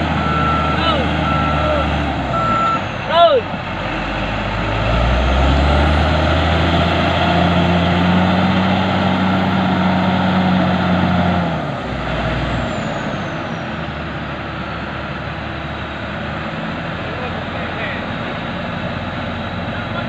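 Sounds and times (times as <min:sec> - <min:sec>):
heavy diesel engine revving: 0:00.0 - 0:20.0.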